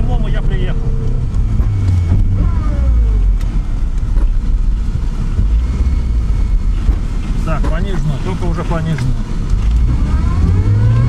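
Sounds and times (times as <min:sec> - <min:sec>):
car engine rumbling from inside cabin: 0:00.0 - 0:11.0.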